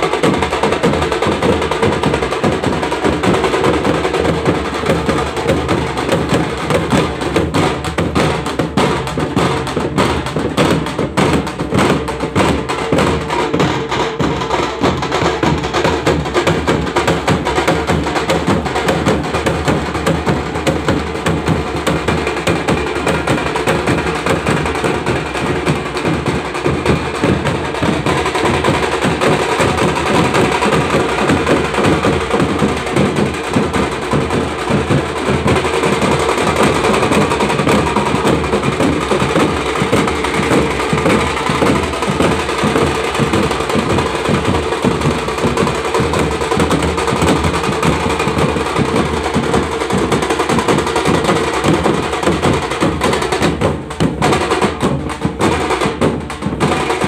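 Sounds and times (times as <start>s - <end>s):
bass drums: 0.0s - 57.0s
kettle drums beaten with sticks: 0.0s - 57.0s.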